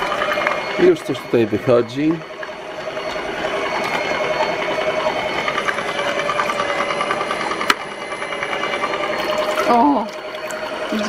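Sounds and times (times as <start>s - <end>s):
juicer motor running: 0.0s - 11.0s.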